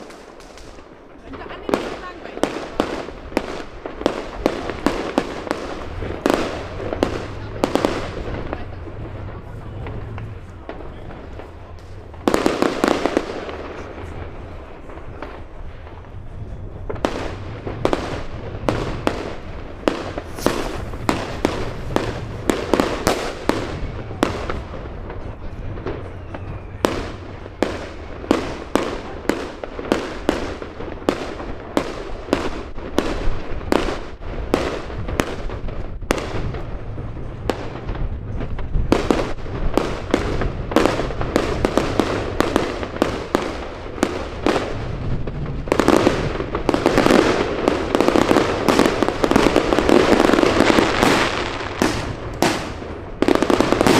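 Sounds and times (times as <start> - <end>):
fireworks bangs and cracks: 0.0 - 53.9.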